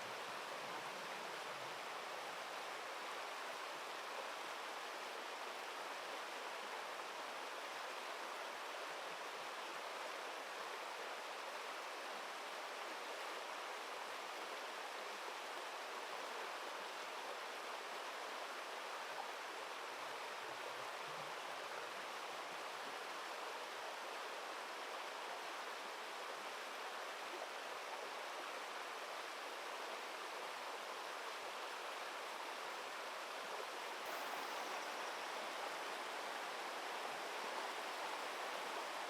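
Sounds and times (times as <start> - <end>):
flowing river water: 0.0 - 39.0.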